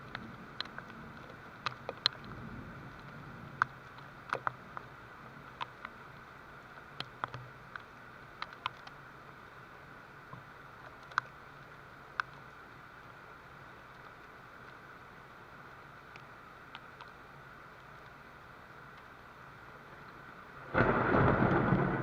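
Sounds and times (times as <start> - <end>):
raindrops ticking: 0.0 - 22.0
steady light rain: 0.0 - 22.0.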